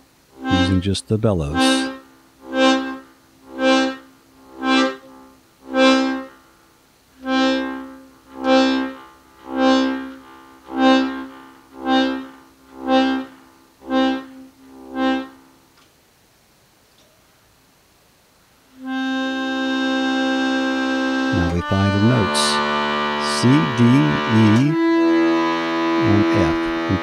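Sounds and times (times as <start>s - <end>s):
accordion bass notes: 0.0s - 6.4s, 7.2s - 15.6s, 18.8s - 27.0s.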